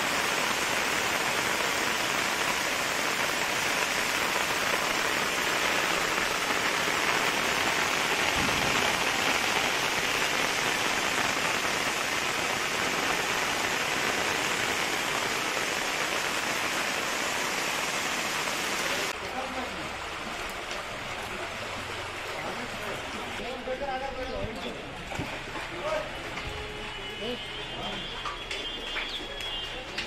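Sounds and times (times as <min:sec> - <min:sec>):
rain on a paved street: 0:00.0 - 0:30.0.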